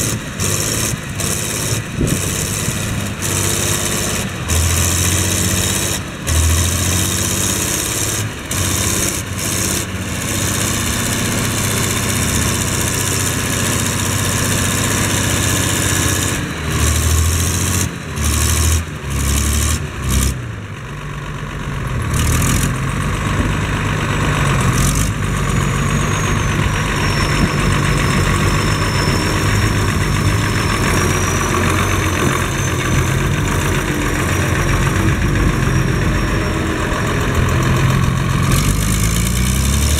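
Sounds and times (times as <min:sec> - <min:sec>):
tractor diesel engine working: 0:00.0 - 0:39.9.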